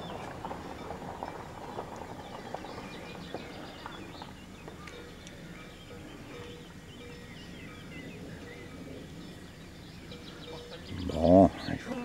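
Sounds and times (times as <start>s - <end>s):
steady low rumble: 0.0s - 11.8s
birds chirping and singing: 0.0s - 12.0s.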